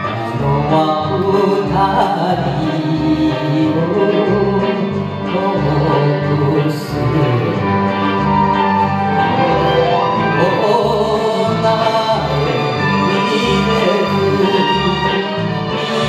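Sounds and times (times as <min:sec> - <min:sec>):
man singing karaoke: 0:00.0 - 0:08.5, 0:10.1 - 0:16.0.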